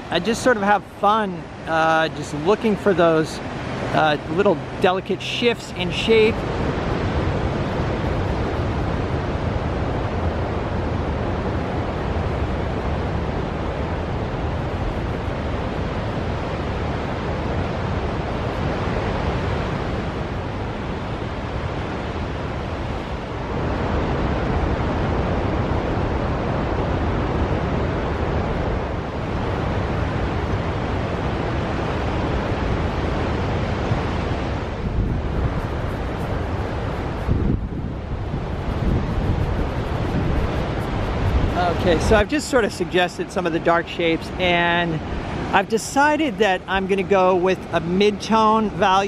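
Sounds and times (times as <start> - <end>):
ocean surf washing in: 0.0 - 49.0
wind on microphone: 1.4 - 49.0.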